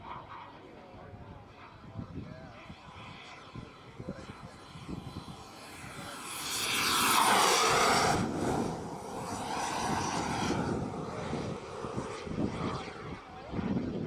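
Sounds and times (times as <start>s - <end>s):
jet turbine whine: 0.0s - 14.0s.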